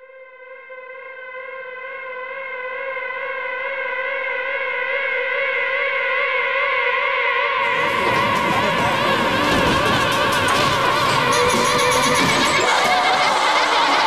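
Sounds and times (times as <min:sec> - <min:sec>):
held siren-like tone: 0:01.4 - 0:14.0.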